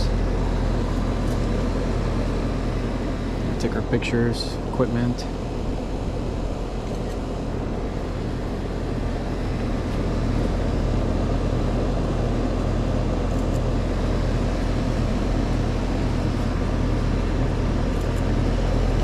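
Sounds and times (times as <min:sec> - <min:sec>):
compressor humming: 0:00.0 - 0:19.0
condenser fan rushing air: 0:00.0 - 0:19.0.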